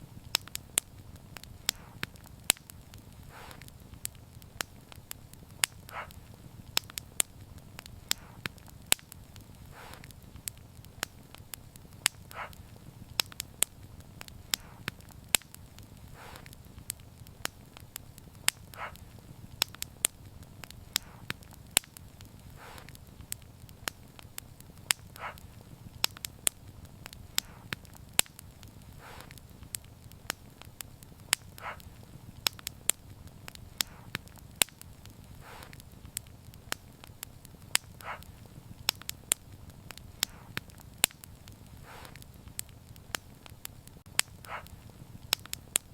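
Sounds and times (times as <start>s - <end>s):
fire crackling and popping: 0.0s - 45.9s
fire flames rumbling: 0.0s - 45.9s
soft burst of flame: 0.0s - 45.9s.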